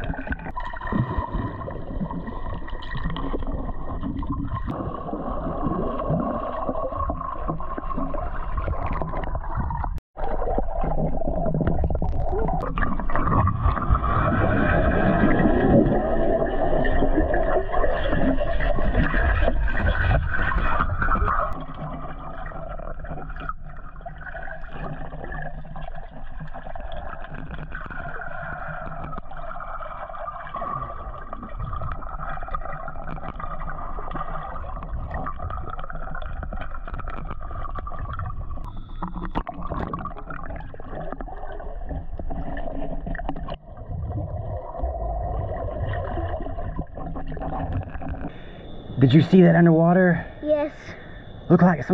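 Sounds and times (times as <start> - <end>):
underwater gurgling water: 0.0 - 51.9.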